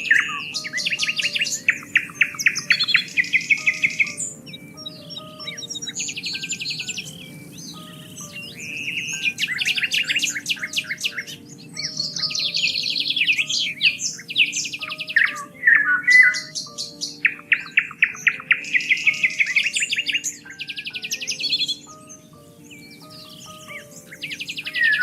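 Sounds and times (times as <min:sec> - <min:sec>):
birds singing trills and chirps: 0:00.0 - 0:25.0
soft music of slow held notes: 0:00.0 - 0:25.0.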